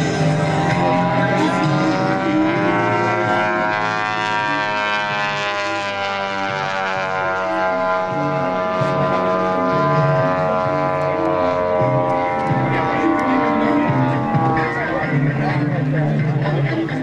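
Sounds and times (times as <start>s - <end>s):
model plane engine droning: 0.0s - 17.0s.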